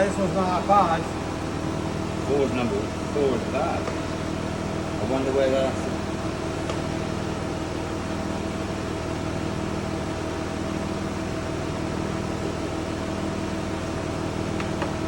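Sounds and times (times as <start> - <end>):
machine humming and whirring: 0.0 - 15.0.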